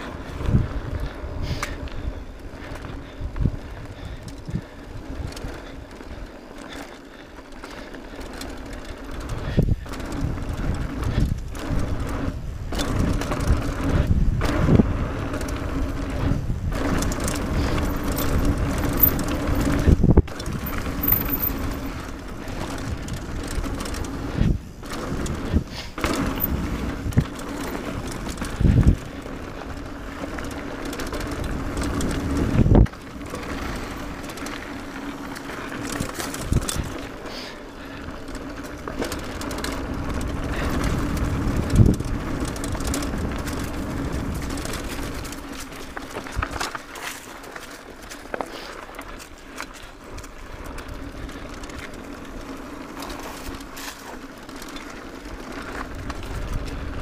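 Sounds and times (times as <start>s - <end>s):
bike rattling and knocking: 0.0s - 57.0s
bike tyre rumble on dirt: 0.0s - 57.0s.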